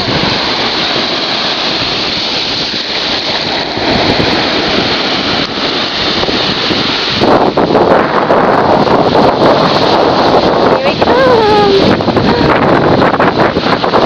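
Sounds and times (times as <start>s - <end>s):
surf rushing: 0.0s - 14.0s
wind on microphone: 0.0s - 14.0s.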